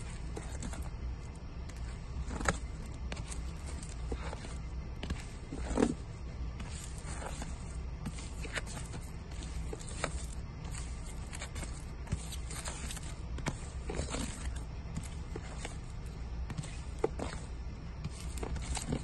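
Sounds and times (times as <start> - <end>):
record sleeves tapping and sliding: 1.6 - 19.0.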